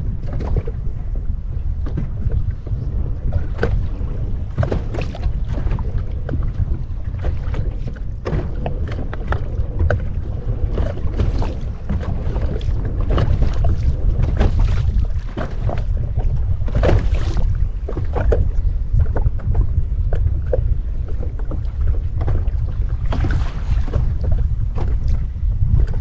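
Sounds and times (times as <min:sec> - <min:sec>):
water splashing against hull: 0:00.0 - 0:26.0
wind rumbling on microphone: 0:00.0 - 0:26.0.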